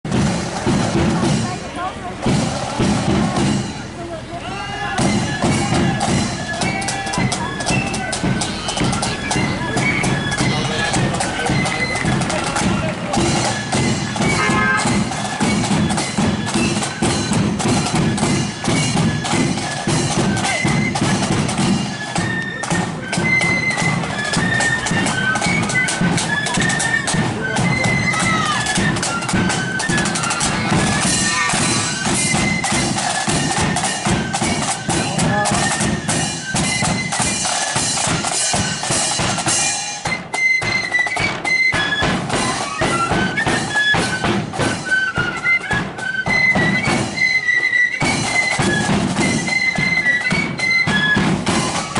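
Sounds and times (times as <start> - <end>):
side drums beating march rhythm: 0.0 - 51.9
flutes playing melody: 2.2 - 51.9.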